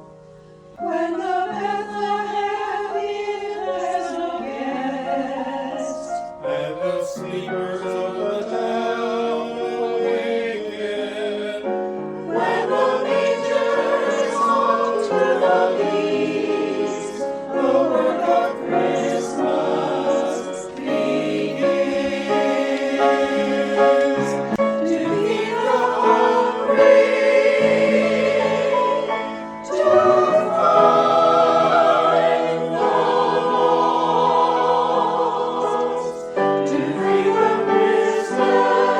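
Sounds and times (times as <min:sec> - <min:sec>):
choir singing in sustained chords: 0:00.0 - 0:38.9.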